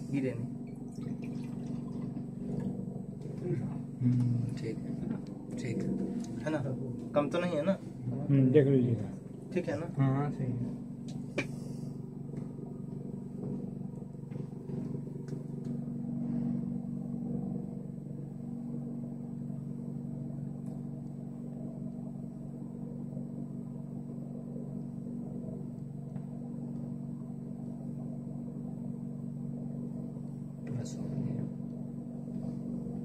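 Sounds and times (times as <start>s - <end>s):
low mechanical drone: 0.0s - 33.0s.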